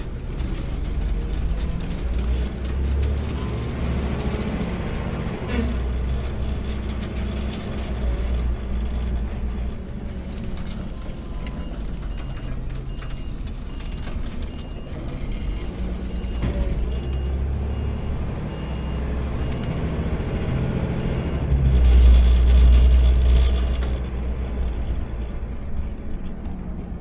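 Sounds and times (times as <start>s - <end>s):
garbage truck engine rumble: 0.0s - 27.0s.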